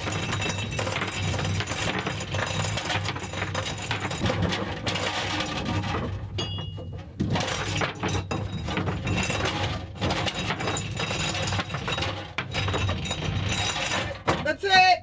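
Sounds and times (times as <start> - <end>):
anchor chain clanking: 0.0 - 14.7.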